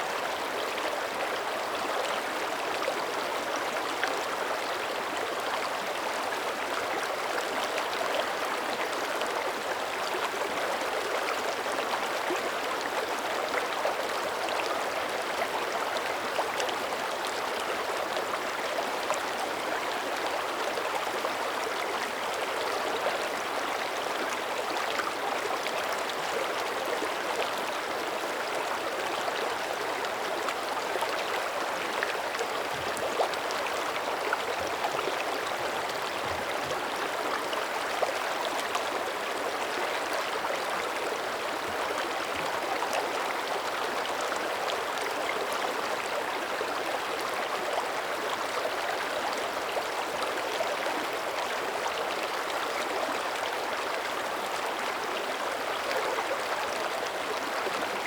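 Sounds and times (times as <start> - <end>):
creek running over rocks: 0.0 - 58.0.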